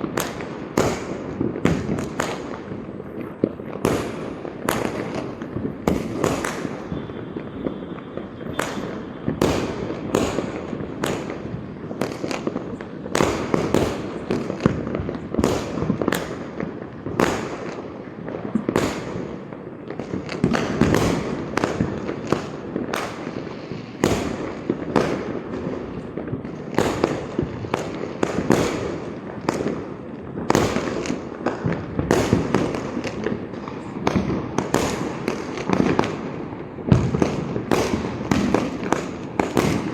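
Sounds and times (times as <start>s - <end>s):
firecrackers banging: 0.0s - 39.9s.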